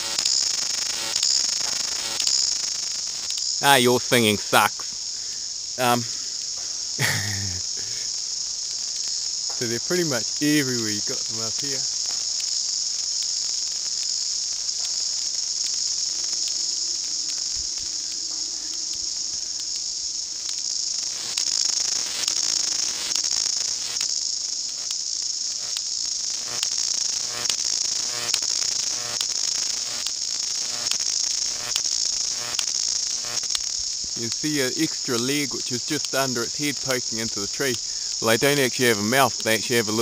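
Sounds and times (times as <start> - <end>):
cicada wing-clap clicks: 0.0 - 40.0
cicadas buzzing: 0.0 - 40.0.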